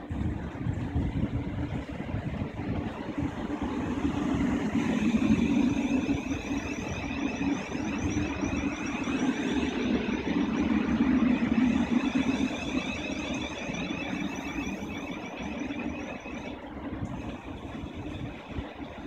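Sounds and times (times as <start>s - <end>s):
train running rumble: 0.0s - 19.0s
warbling high whine: 0.0s - 19.0s.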